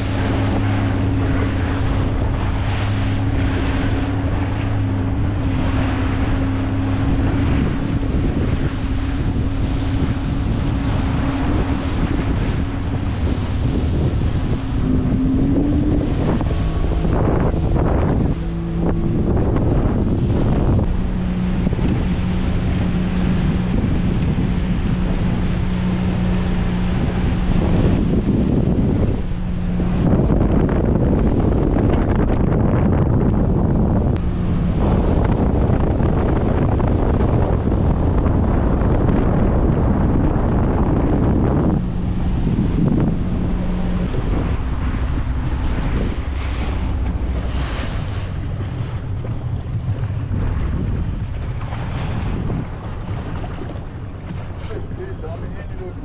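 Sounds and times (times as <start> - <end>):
boat engine humming: 0.0 - 56.0
sea noise: 0.0 - 56.0
water washing: 0.0 - 56.0
wind buffeting microphone: 0.0 - 56.0.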